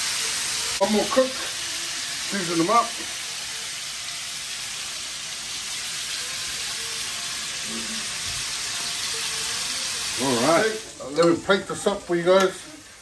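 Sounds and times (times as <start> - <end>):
burger patties sizzling: 0.0 - 13.0.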